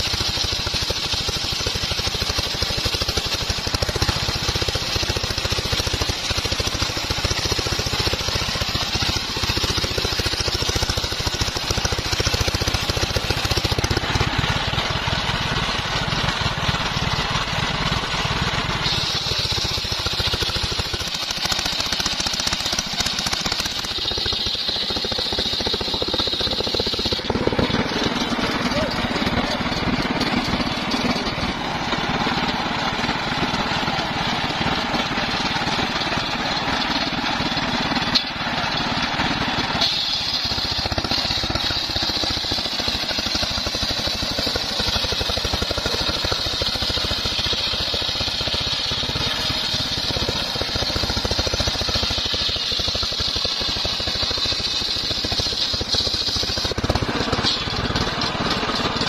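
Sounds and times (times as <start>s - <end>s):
circular saw cutting log: 0.0s - 59.0s
high blade whine: 0.0s - 59.0s.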